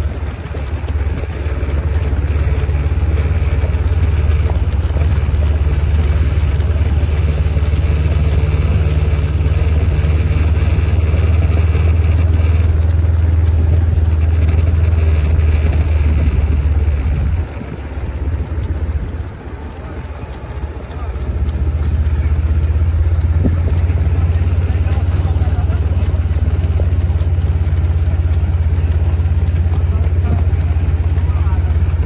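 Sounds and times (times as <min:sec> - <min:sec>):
vehicle engine rumbling: 0:00.0 - 0:32.0
wind noise on microphone: 0:00.0 - 0:32.0.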